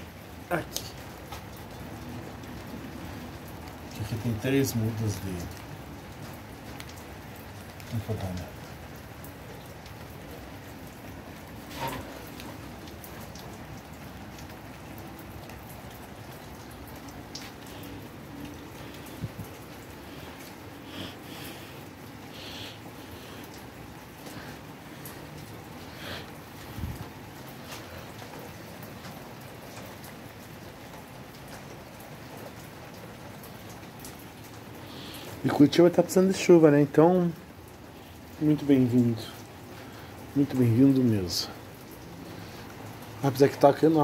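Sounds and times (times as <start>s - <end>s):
raindrops ticking: 0.0s - 44.0s
steady rain hiss: 0.0s - 44.0s.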